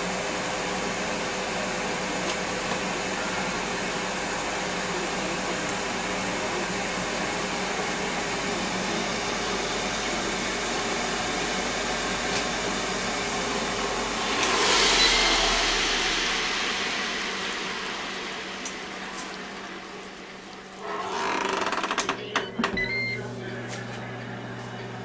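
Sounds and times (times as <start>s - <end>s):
cooker fan running: 0.0s - 25.0s.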